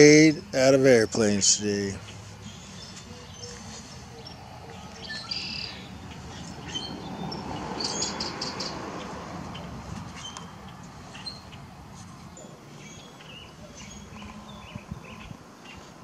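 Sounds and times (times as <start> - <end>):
rushing background noise: 0.0 - 16.0
songbirds chirping: 0.0 - 16.0.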